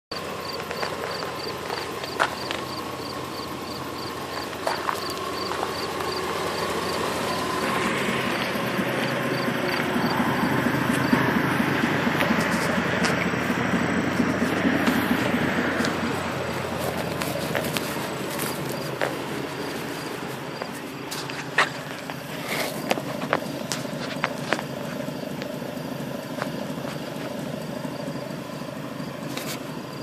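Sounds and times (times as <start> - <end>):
pickup truck engine running: 0.1 - 30.0.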